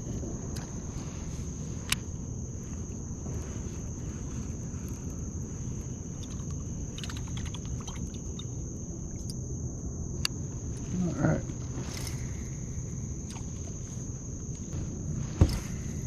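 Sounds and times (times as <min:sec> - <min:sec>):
crickets chirring: 0:00.0 - 0:16.0
low outdoor rumble: 0:00.0 - 0:16.0.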